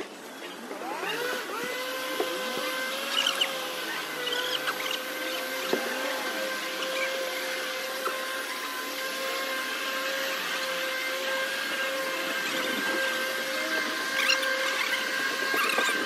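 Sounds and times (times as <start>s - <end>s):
machine motor humming and whining: 0.0s - 16.0s.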